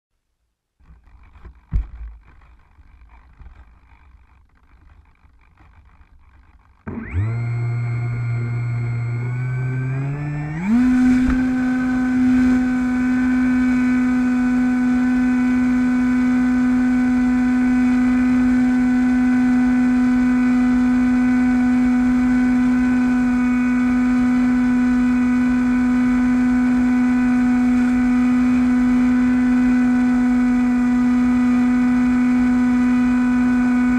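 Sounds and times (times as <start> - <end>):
model plane motor whining: 0.8 - 33.9.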